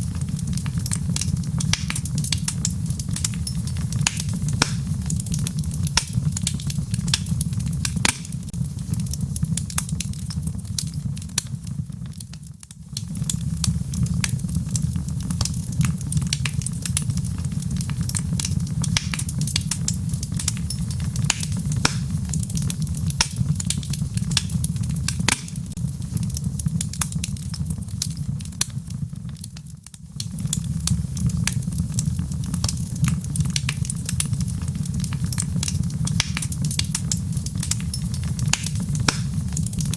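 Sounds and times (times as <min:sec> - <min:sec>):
fire crackles and pops: 0:00.0 - 0:39.9
wood logs burning in fireplace: 0:00.0 - 0:39.9.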